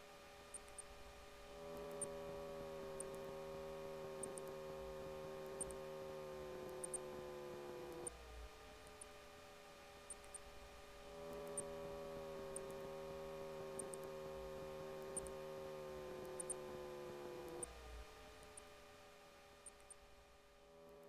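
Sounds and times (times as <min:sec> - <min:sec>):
light aircraft engine hum: 0:00.1 - 0:20.0.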